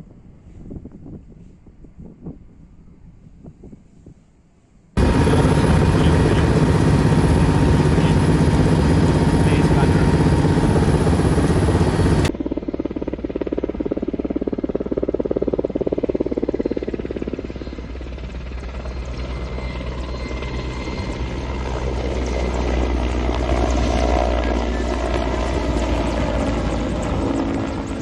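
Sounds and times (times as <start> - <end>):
helicopter rotor drone: 5.0 - 28.0.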